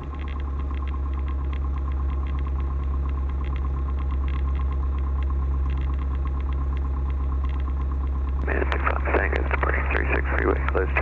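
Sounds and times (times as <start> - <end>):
propeller aircraft engine idling: 0.0 - 11.0.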